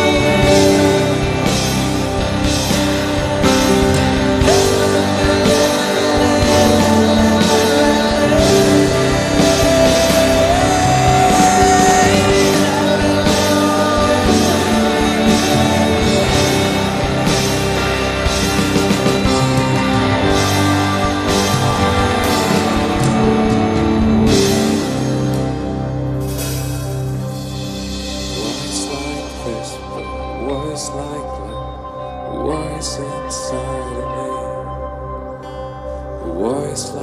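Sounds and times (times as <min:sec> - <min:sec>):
person singing: 0:00.0 - 0:25.9, 0:28.3 - 0:34.8, 0:36.2 - 0:37.0
live rock band playing: 0:00.0 - 0:32.3.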